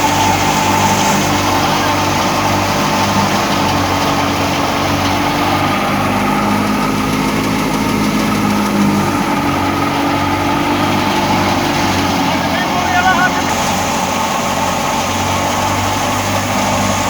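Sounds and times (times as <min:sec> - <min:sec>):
constant rushing noise: 0:00.0 - 0:17.0
harvesting machine engine drone: 0:00.0 - 0:17.0.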